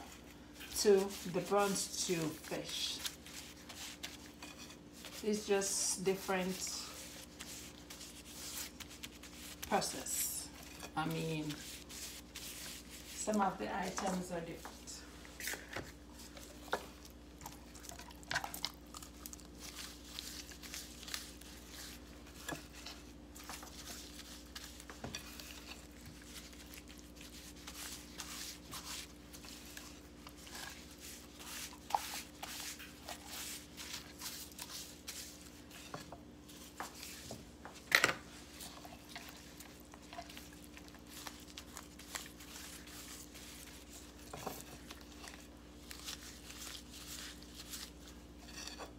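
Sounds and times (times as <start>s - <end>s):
wet squishing of gloved hands: 0.0s - 10.8s, 11.4s - 48.4s
plastic glove rustling: 0.0s - 48.9s.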